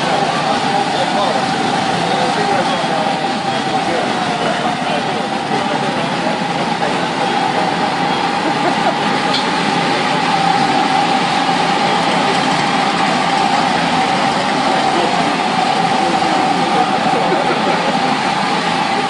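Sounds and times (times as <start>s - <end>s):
go-kart engines droning: 0.0s - 19.0s.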